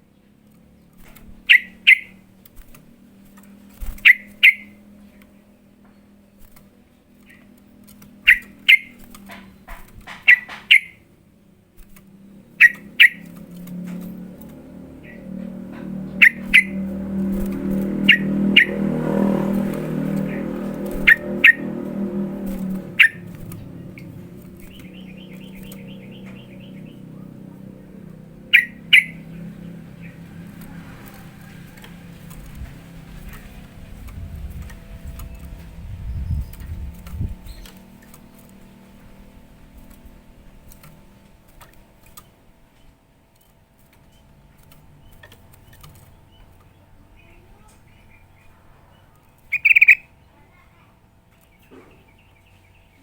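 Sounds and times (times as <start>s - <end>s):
vehicle rumble: 0.0s - 53.0s
bird chirping and trilling: 0.2s - 11.1s, 12.3s - 42.4s, 44.9s - 50.8s.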